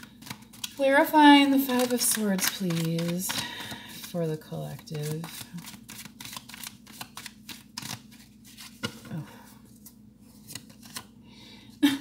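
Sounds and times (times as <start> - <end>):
cards shuffling: 0.0 - 0.8, 1.5 - 11.1.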